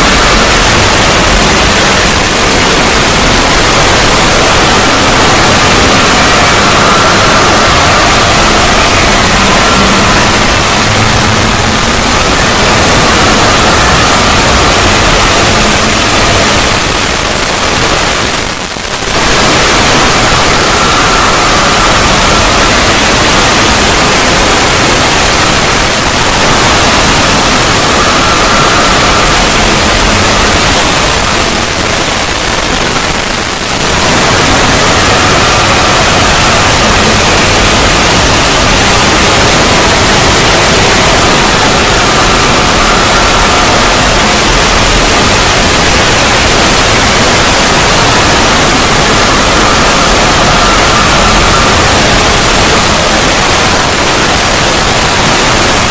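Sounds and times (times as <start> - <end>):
faint tones: 0.0 - 55.4
harsh static-like noise: 0.0 - 55.9.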